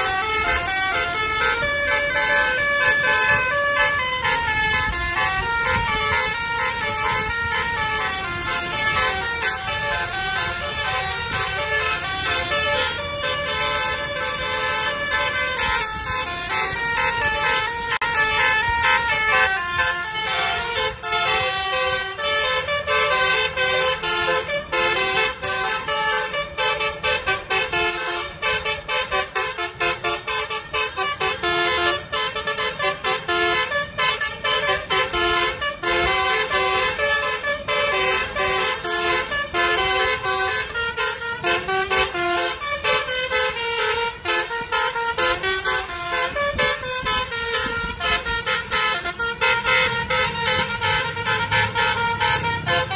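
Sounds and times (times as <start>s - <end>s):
musical bus horns: 0.0s - 52.9s
road noise: 0.0s - 52.9s.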